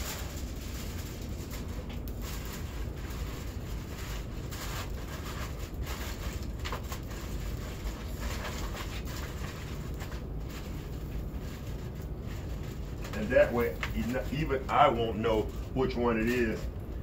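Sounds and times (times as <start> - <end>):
aluminum foil crinkling: 0.0 - 17.0
steady low rumble: 0.0 - 17.0.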